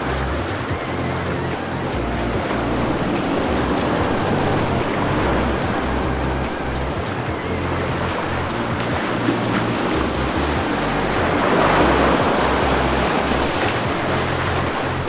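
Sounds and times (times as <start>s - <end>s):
low rumble: 0.0s - 15.0s
surf washing onto beach: 0.0s - 15.0s.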